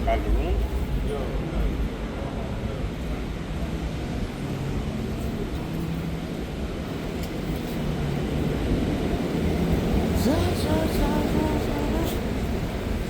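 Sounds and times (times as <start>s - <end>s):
faint engine hum: 0.0s - 13.0s
street traffic rumble: 0.0s - 13.0s.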